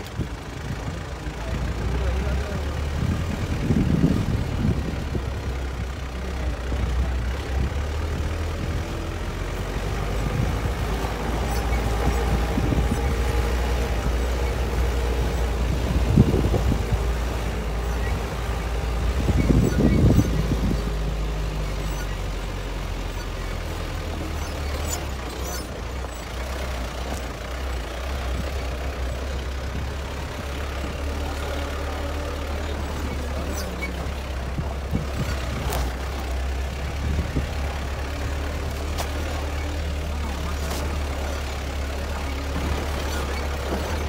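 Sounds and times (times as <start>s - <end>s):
vehicle engine droning: 0.0s - 44.0s
vehicle jolts: 0.0s - 44.0s.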